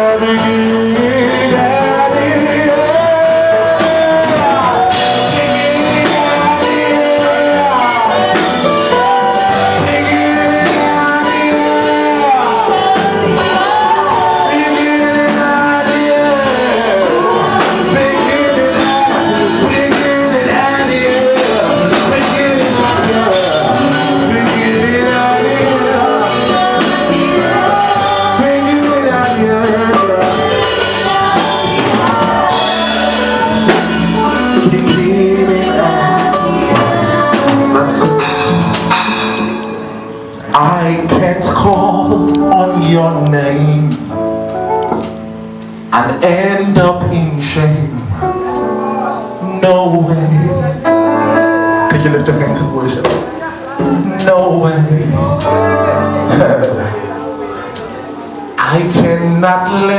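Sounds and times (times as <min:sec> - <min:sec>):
people singing: 0:00.0 - 0:44.3, 0:45.9 - 0:59.9
band playing gospel music: 0:00.0 - 0:59.9.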